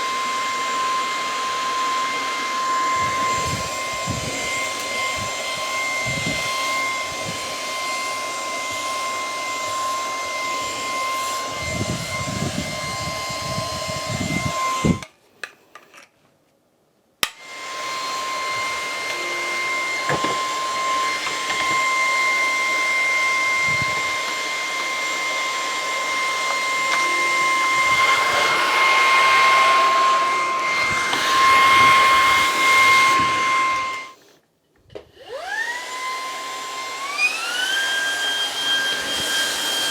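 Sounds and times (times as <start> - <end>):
stick vacuum motor whine: 0.0 - 15.1, 17.2 - 34.2, 35.2 - 39.9.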